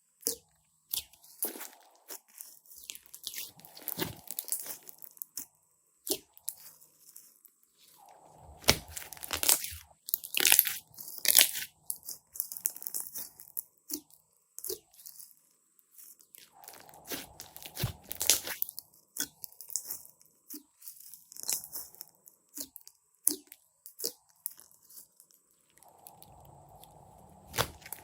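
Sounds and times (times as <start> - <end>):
slime crackling and squelching: 0.2 - 15.2, 15.9 - 28.0.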